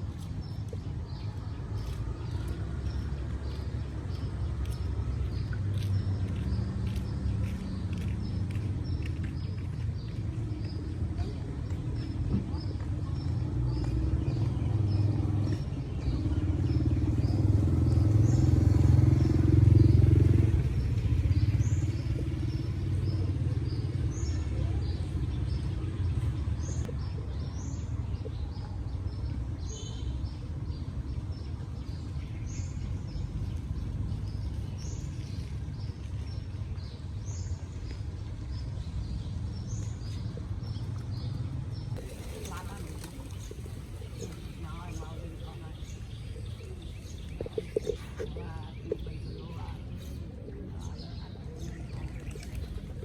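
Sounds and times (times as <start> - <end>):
small birds chirping: 0.0 - 53.0
vehicle engine rumble: 0.0 - 53.0.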